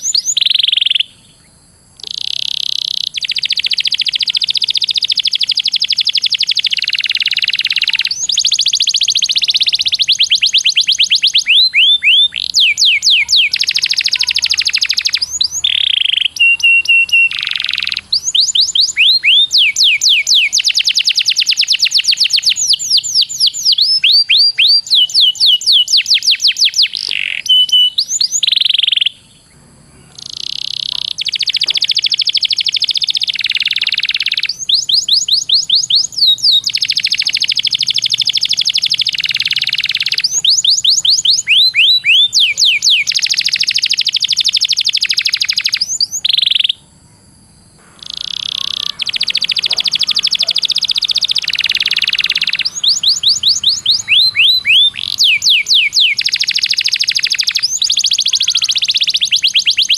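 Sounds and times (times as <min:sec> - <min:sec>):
songbird singing trills: 0:00.0 - 0:59.9.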